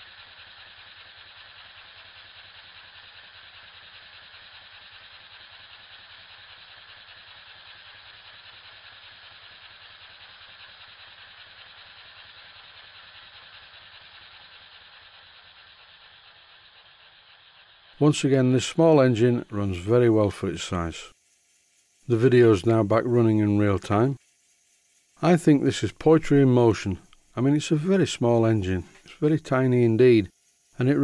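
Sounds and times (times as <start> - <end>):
model steam engine running: 0.0 - 31.0.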